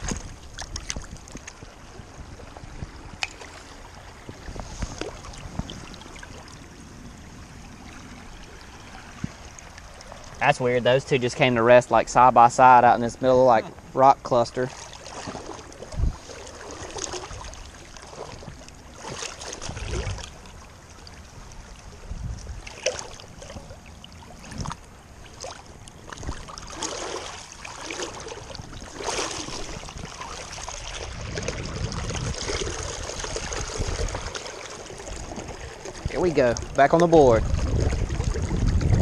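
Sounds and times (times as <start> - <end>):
river water splashing: 0.0 - 39.0.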